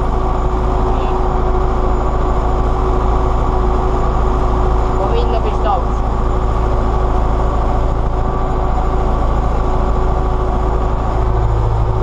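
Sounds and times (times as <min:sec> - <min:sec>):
steady whine: 0:00.0 - 0:12.0
tractor diesel engine running: 0:00.0 - 0:12.0.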